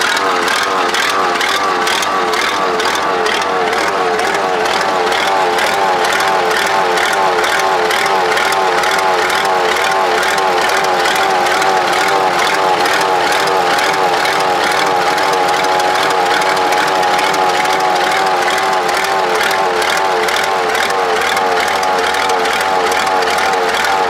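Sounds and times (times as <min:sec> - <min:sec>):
diesel tractor engine running: 0:00.0 - 0:24.0.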